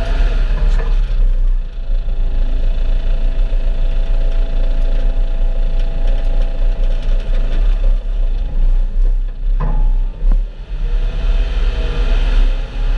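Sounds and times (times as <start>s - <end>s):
farm machinery engine running: 0.0s - 11.4s.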